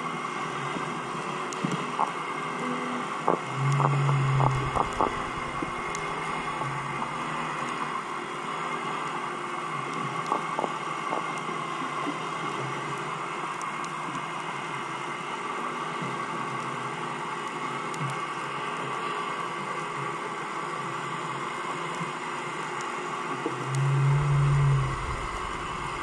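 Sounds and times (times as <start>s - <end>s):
underwater hum and hiss: 0.0s - 26.0s.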